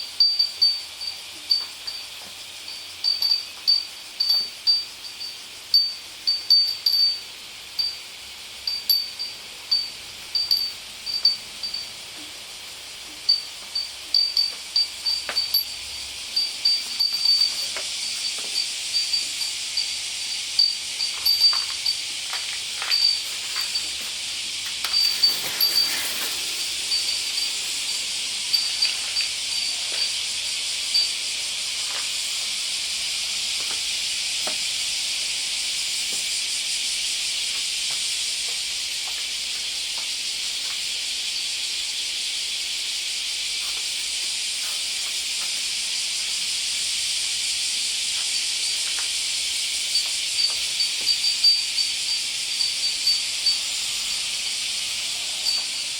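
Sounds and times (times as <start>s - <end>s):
cicadas shrilling: 0.0s - 55.9s.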